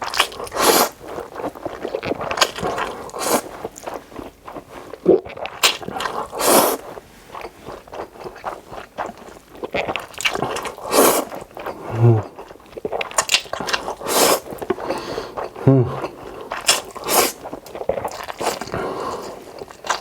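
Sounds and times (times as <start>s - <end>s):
close chewing and wet mouth sounds: 0.0s - 20.0s.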